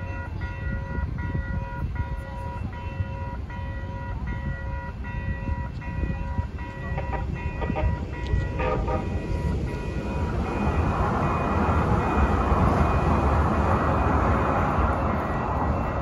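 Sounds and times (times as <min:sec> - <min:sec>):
crossing warning bells ringing: 0:00.0 - 0:16.0
low rumble of road traffic: 0:00.0 - 0:16.0
train wheels rushing on rails: 0:00.0 - 0:16.0.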